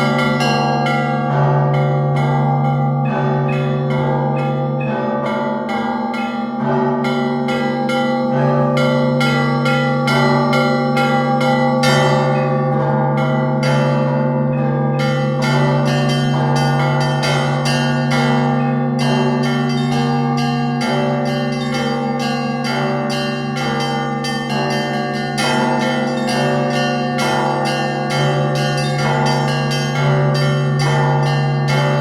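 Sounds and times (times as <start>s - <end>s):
large bells humming: 0.0s - 32.0s
small church bells ringing: 0.0s - 32.0s.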